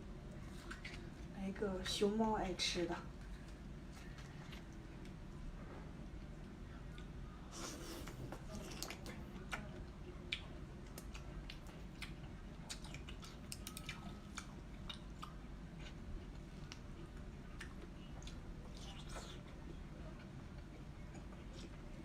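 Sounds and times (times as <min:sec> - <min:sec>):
person chewing food: 0:00.3 - 0:01.3, 0:03.2 - 0:05.2, 0:06.8 - 0:22.0.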